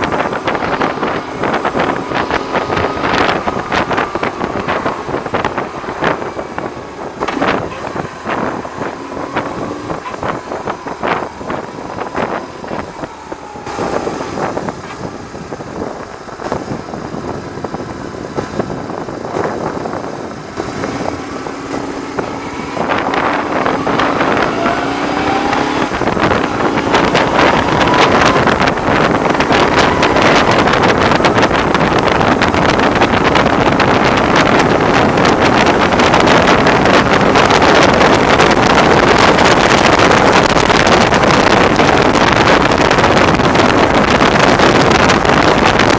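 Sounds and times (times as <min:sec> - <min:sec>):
motorcycle engine accelerating: 0:00.0 - 0:45.9
wind rushing on microphone: 0:00.0 - 0:45.9.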